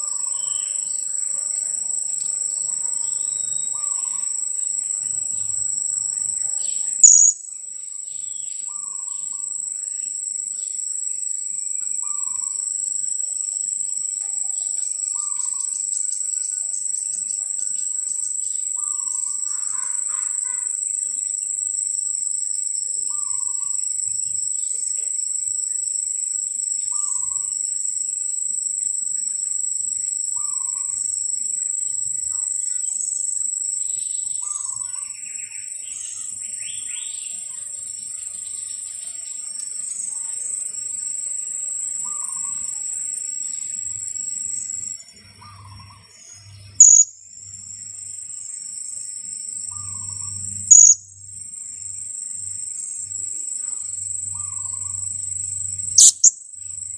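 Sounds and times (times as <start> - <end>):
faint bird chirps: 0.0 - 11.1, 11.7 - 22.3, 22.9 - 25.9, 26.5 - 27.6, 30.3 - 33.1, 33.7 - 41.3, 41.9 - 44.0, 44.8 - 48.2, 49.7 - 51.2, 53.1 - 56.9
high-pitched insect drone: 0.0 - 56.9.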